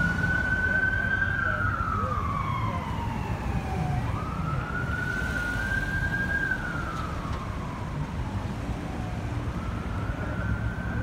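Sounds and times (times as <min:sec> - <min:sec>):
emergency siren wailing: 0:00.0 - 0:11.0
traffic rumble: 0:00.0 - 0:11.0.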